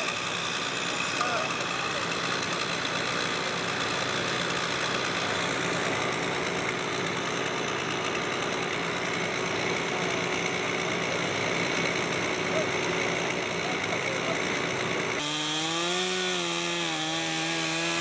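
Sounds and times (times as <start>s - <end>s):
engine running steadily: 0.0s - 15.3s.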